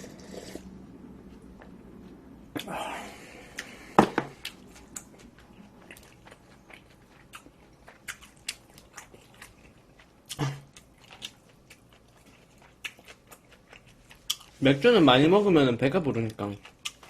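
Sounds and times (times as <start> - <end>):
person chewing food: 1.0 - 14.6, 16.2 - 17.0.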